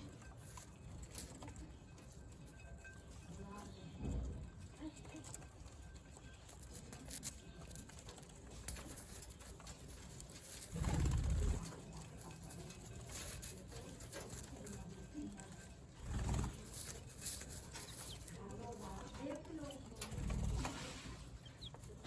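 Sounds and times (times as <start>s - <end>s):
birds: 0.0s - 22.0s.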